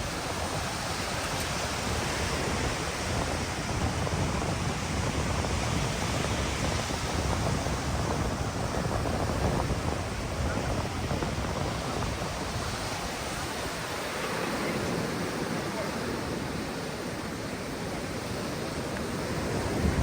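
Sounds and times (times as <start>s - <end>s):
ocean surf washing onto beach: 0.0s - 20.0s
wind rumbling on microphone: 0.0s - 20.0s.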